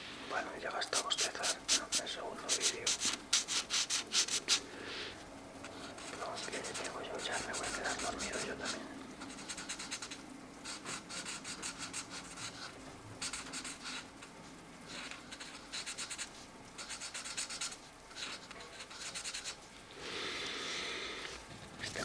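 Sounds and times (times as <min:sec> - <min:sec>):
markers scratching on paper: 0:00.8 - 0:04.7, 0:05.6 - 0:19.6.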